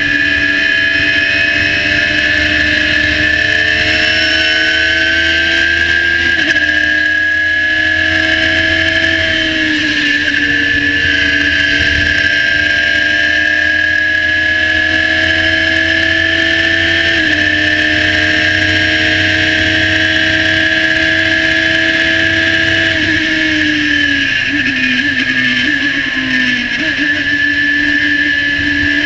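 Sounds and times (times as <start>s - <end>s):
race car engine revving high: 0.0s - 29.0s.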